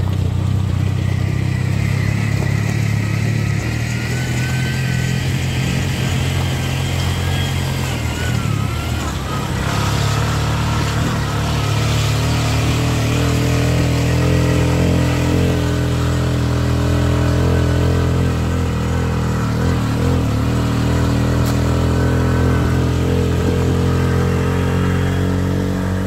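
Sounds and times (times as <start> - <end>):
motor tricycle engine running: 0.0 - 26.0.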